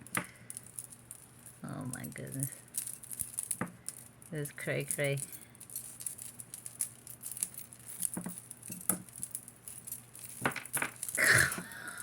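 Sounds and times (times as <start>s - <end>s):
metal necklace chains rattling: 0.0s - 12.0s.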